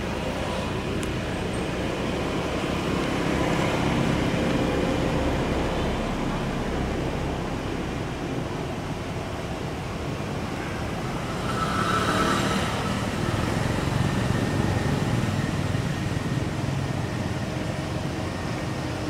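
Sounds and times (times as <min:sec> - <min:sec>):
low rumble of distant traffic: 0:00.0 - 0:19.0.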